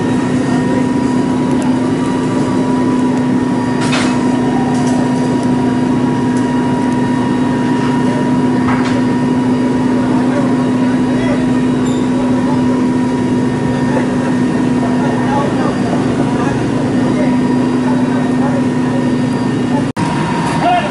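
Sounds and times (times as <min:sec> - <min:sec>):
heavy machinery engine humming: 0:00.0 - 0:20.9.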